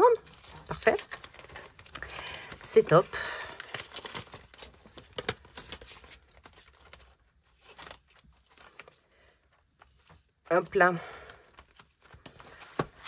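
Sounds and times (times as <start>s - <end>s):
paper rustling: 0.1s - 10.3s, 11.2s - 13.0s.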